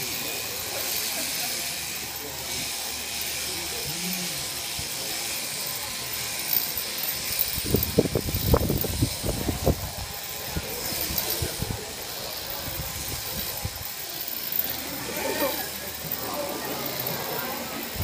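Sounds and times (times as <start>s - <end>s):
electric sheep shears running: 0.0s - 18.0s.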